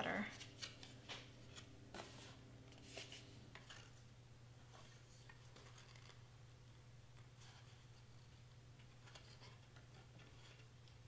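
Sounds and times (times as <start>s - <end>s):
low steady hum: 0.0s - 11.0s
cardstock rustling and crinkling: 0.2s - 4.0s, 4.6s - 6.3s, 7.1s - 11.0s.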